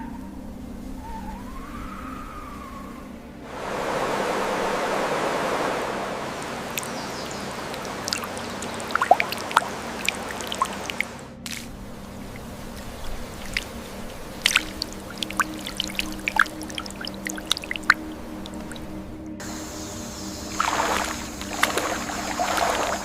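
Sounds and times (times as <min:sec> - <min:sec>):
stream water rushing: 0:03.1 - 0:23.0.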